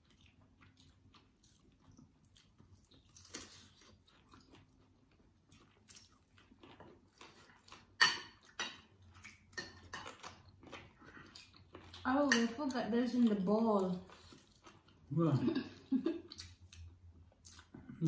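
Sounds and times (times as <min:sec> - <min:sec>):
chewing and mouth smacks: 0:00.0 - 0:12.1, 0:14.0 - 0:15.0, 0:16.2 - 0:18.0.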